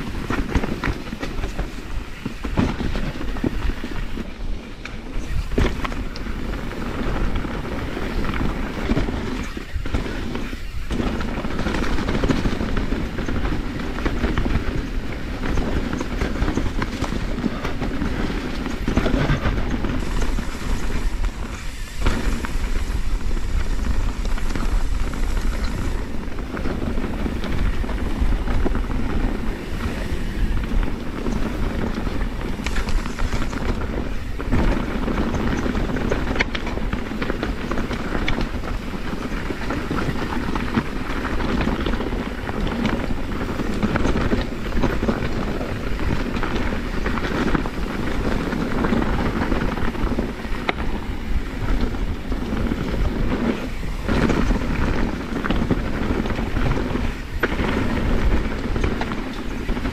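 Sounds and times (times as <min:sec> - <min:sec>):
bike rattling: 0:00.0 - 0:59.9
bike tyres clattering over rocks: 0:00.0 - 0:59.9.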